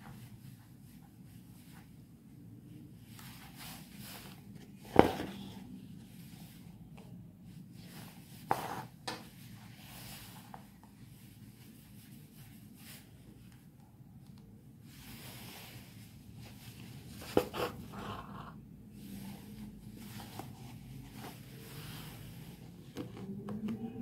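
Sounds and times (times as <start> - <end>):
low steady background noise: 0.0 - 24.0.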